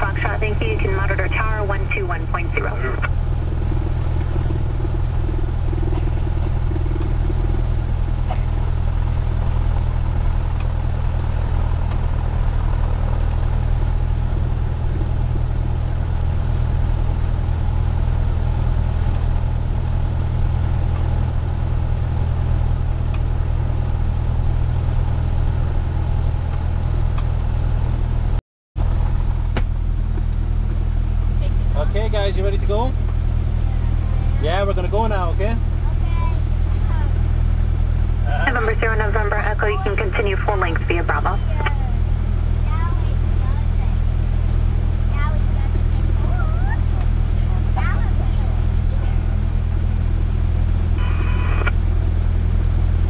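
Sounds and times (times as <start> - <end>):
propeller plane engine droning: 0.0 - 53.0.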